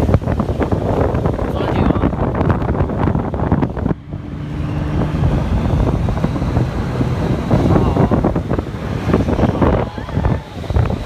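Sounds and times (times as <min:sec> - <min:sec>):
wind buffeting microphone: 0:00.0 - 0:11.0
low rumble: 0:01.2 - 0:11.0.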